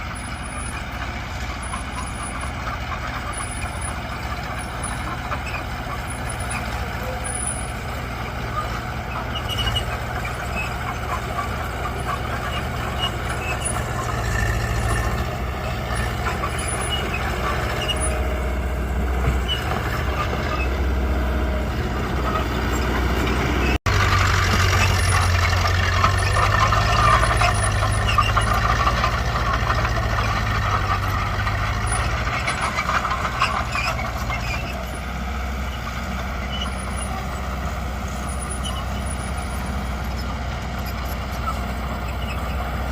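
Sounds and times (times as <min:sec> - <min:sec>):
heavy diesel machines running: 0:00.0 - 0:42.9.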